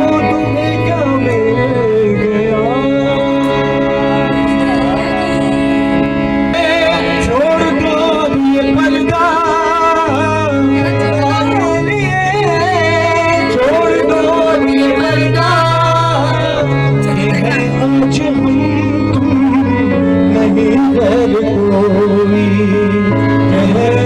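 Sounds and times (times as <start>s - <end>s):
person singing ornamented lines: 0.0s - 24.0s
sustained instrumental tones: 0.0s - 24.0s.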